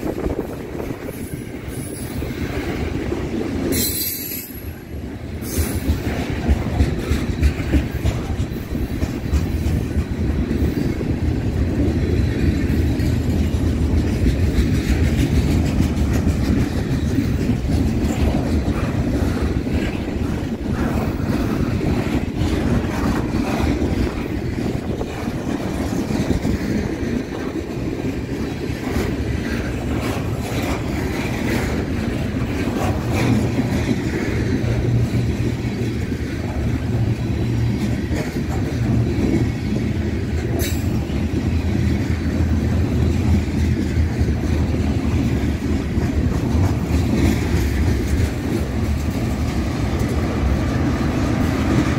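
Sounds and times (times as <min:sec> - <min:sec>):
freight train cars rumbling: 0:00.0 - 0:51.9
wheels clicking over rail joints: 0:00.0 - 0:51.9.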